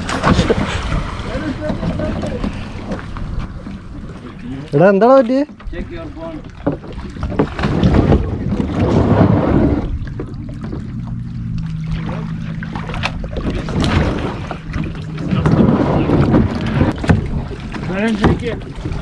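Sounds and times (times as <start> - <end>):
wind rumbling on microphone: 0.0 - 4.8, 5.4 - 19.0
water sloshing around kayaks: 0.0 - 19.0.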